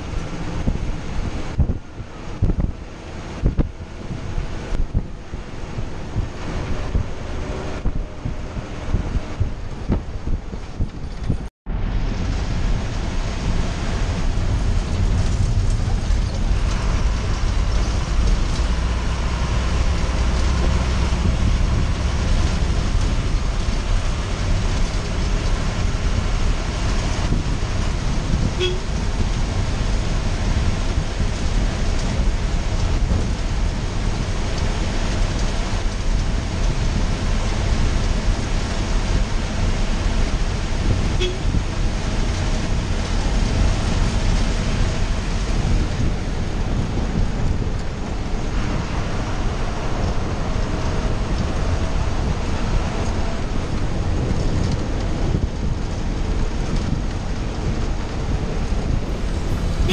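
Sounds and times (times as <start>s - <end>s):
bus engine running: 0.0s - 59.9s
road noise: 0.0s - 59.9s.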